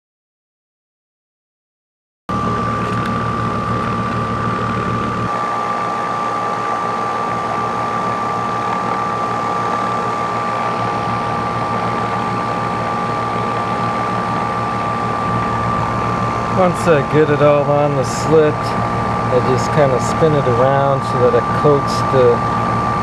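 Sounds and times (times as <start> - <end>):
air conditioner unit humming: 2.3 - 23.0.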